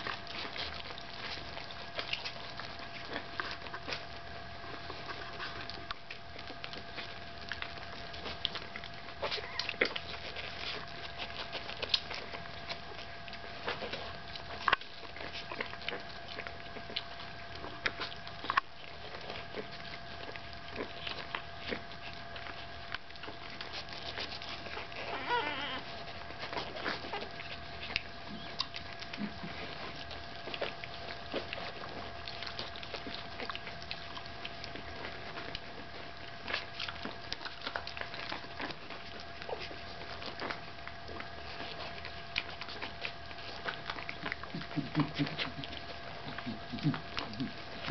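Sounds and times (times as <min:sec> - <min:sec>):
puppies suckling wet clicks: 0:00.0 - 0:47.9
puppy whining: 0:00.0 - 0:47.9.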